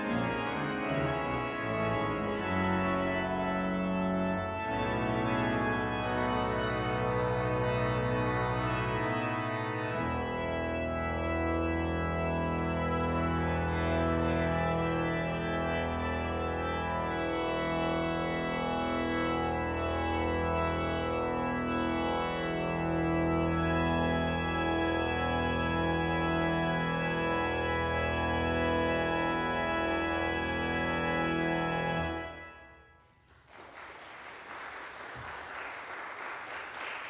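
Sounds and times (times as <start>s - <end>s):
deep organ pedal bass: 0.0s - 32.6s
church organ chords: 0.0s - 33.3s.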